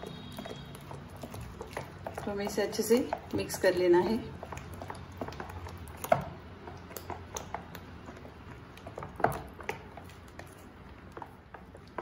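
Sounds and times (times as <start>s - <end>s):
batter stirred in plastic bowl: 0.0s - 12.0s.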